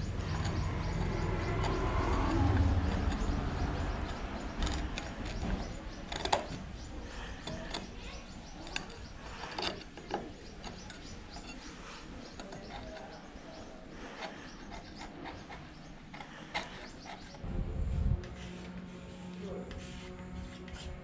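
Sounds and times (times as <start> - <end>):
metal scraper scraping wood: 0.0 - 17.4.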